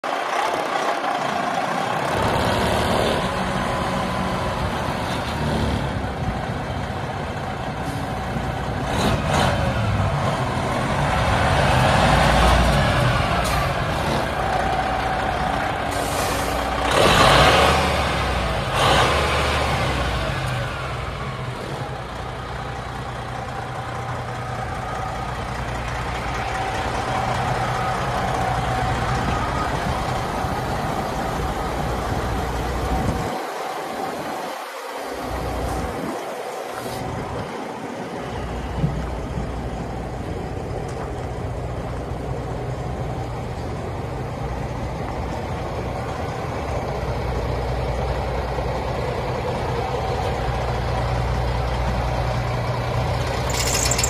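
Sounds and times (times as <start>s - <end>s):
diesel truck engine running: 0.0s - 34.4s, 37.0s - 54.0s.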